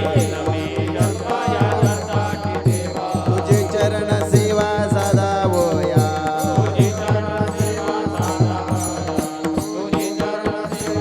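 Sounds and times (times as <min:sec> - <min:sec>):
fast drum beat: 0:00.0 - 0:09.6.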